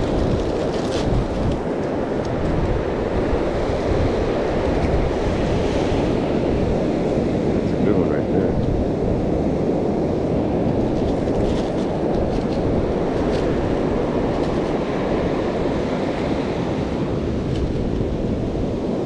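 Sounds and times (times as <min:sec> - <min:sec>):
surf washing up beach: 0:00.0 - 0:19.0
wind buffeting microphone: 0:00.0 - 0:19.0.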